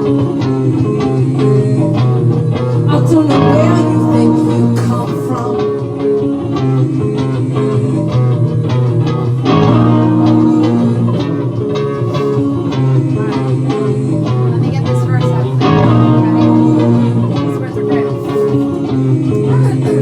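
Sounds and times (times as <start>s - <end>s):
bass line: 0.0s - 20.0s
plucked guitar: 0.0s - 20.0s.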